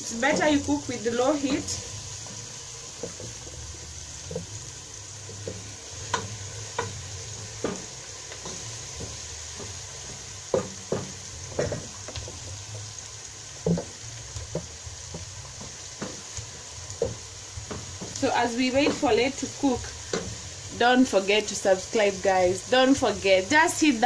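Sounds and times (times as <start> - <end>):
onions and garlic sizzling in a pot: 0.0 - 24.0.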